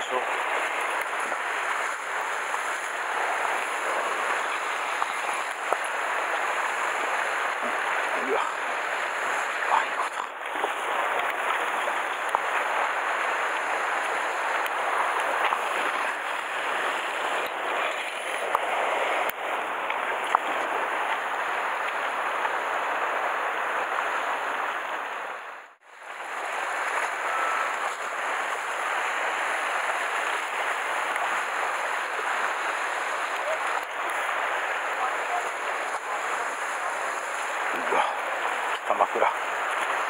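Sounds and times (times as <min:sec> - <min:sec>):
sea surf washing against rocks: 0:00.0 - 0:40.0.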